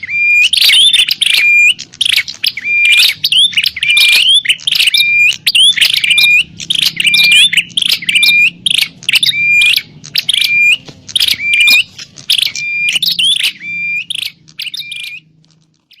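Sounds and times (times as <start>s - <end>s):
birds chirping rapidly: 0.0s - 16.0s.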